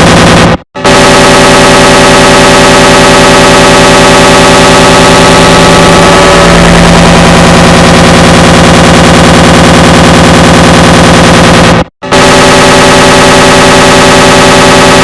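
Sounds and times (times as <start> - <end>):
distorted layered error sound: 0.0 - 15.0.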